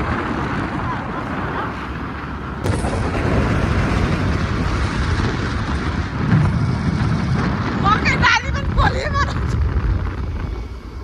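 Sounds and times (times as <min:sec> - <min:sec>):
vehicle road noise rumble: 0:00.0 - 0:11.0.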